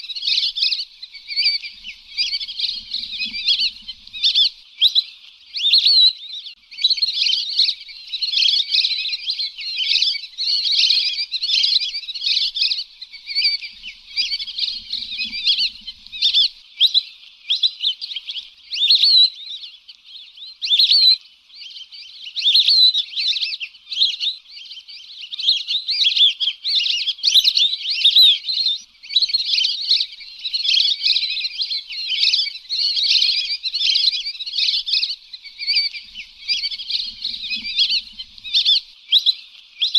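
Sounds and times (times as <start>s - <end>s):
ducks whistling calls: 0.0s - 19.7s, 20.3s - 39.9s.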